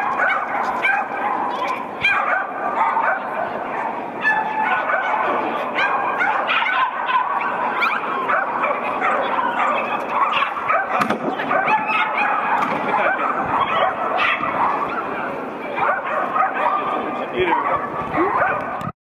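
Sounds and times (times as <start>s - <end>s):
many dogs barking: 0.0s - 18.9s.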